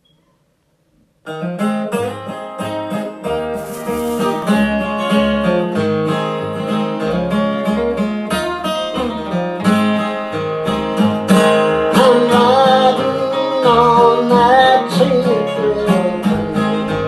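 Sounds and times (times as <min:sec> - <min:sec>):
acoustic guitar picked and strummed: 0:01.2 - 0:17.0.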